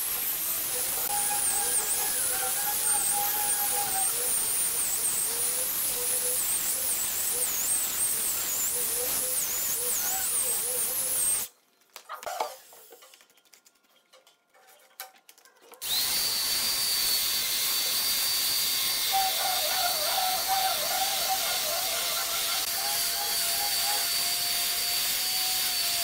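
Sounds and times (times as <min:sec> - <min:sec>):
disc sander on wood: 0:00.0 - 0:11.5, 0:15.8 - 0:26.0
sander motor whine: 0:00.0 - 0:11.5, 0:15.8 - 0:26.0.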